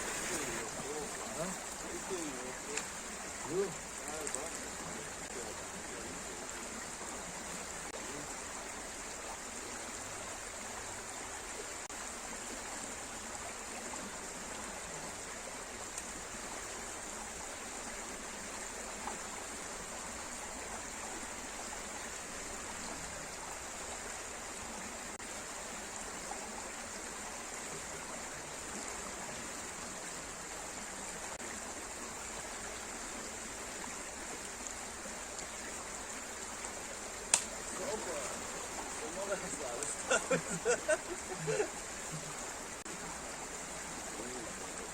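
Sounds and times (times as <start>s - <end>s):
stream of running water: 0.0s - 44.9s.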